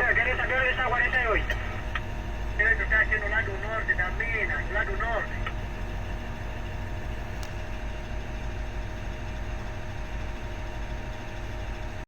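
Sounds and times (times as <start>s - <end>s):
diesel engine drone: 0.0s - 12.0s
faint steady whine: 0.0s - 12.0s.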